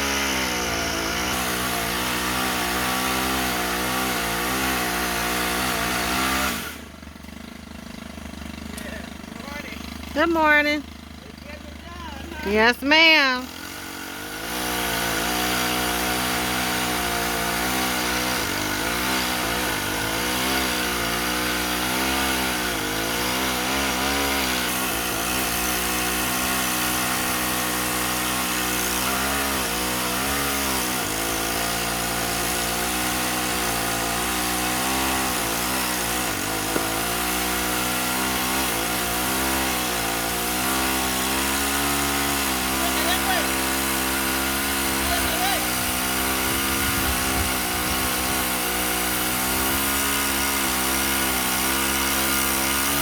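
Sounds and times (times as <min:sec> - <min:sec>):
engine revving under load: 0:00.0 - 0:06.9, 0:08.5 - 0:53.0.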